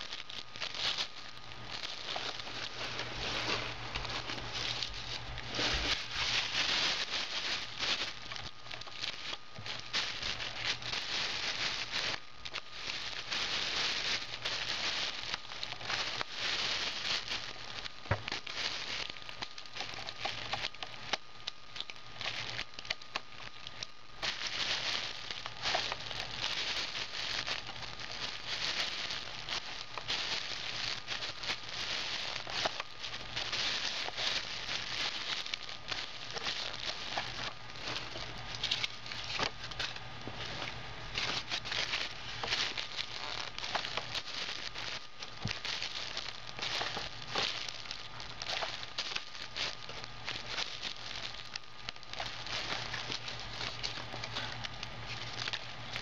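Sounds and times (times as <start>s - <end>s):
plastic bag crinkling: 0.0s - 56.0s.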